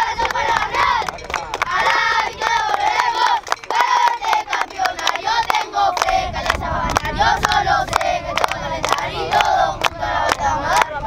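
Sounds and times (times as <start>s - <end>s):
rhythmic hand claps: 0.0s - 11.0s.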